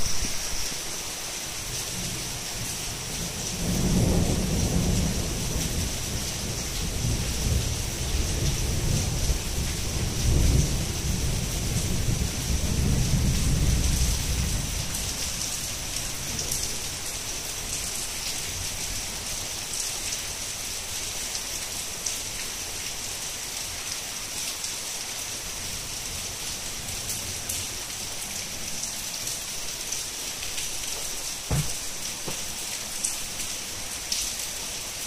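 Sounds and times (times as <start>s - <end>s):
heavy rain pattering: 0.0s - 35.0s.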